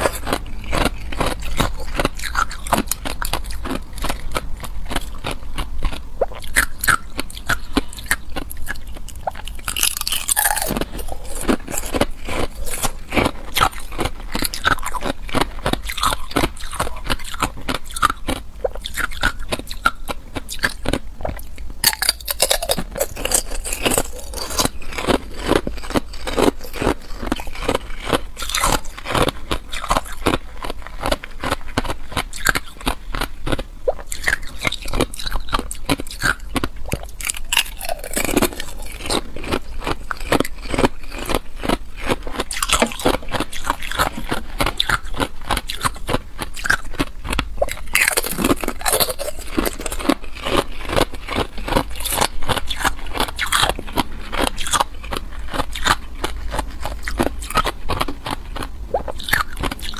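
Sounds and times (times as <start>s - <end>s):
person chewing ice: 0.0s - 59.9s.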